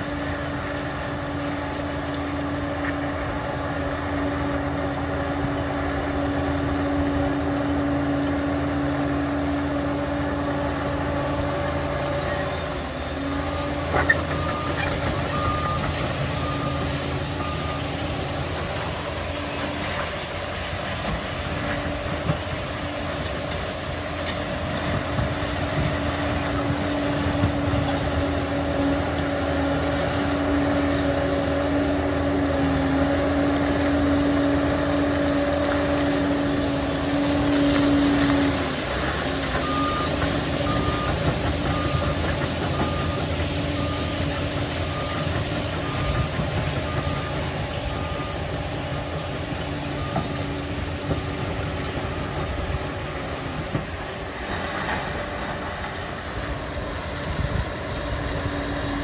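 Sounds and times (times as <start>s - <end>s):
dozer diesel engine under load: 0.0s - 59.0s.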